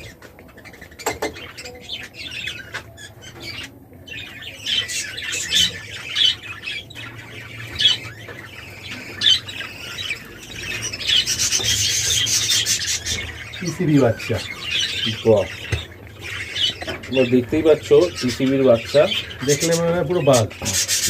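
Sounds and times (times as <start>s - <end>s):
budgerigars squawking and chattering: 0.0s - 21.0s.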